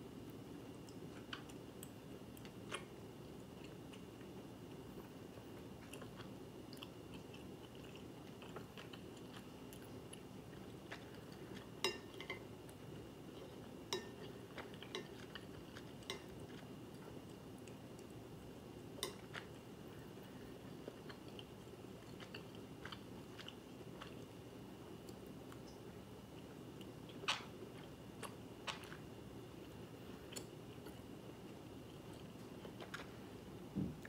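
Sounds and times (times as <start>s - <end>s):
chewing: 0.3s - 33.3s.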